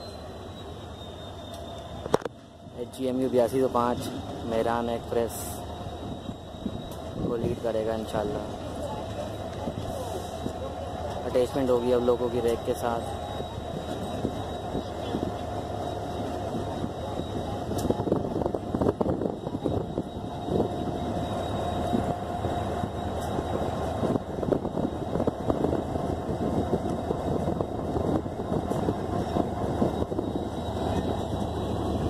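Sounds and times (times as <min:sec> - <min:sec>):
diesel locomotive engine rumbling: 0:00.0 - 0:32.0.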